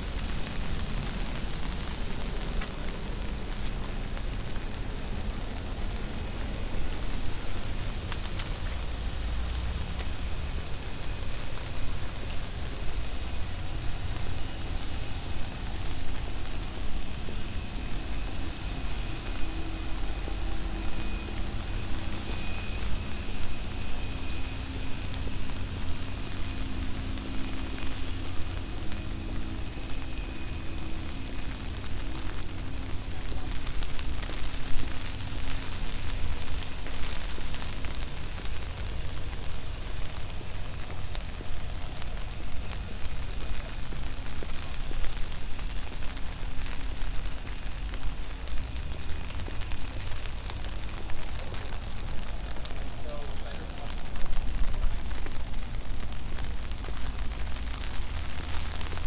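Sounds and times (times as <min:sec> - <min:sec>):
rain on wet street: 0:00.0 - 0:59.0.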